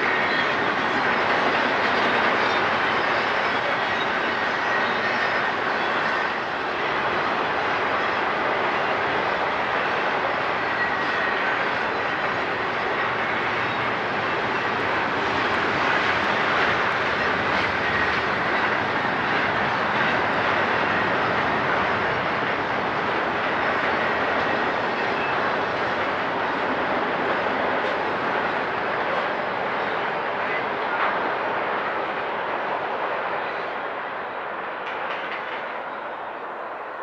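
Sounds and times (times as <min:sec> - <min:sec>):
freight train wheels on rail: 0:00.0 - 0:37.0.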